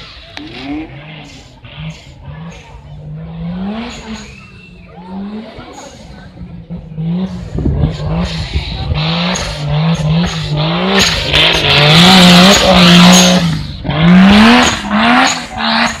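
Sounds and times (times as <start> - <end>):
buggy engine revving: 0.0 - 16.0.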